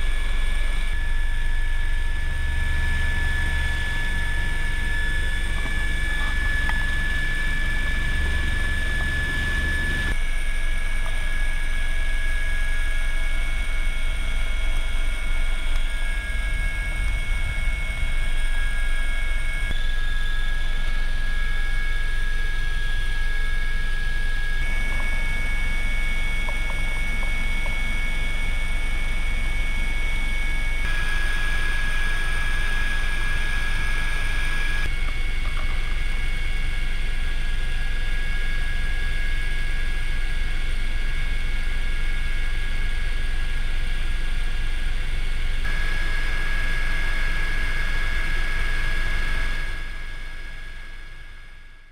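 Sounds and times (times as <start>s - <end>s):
helicopter engine whine and rotor rumble: 0.0s - 51.9s.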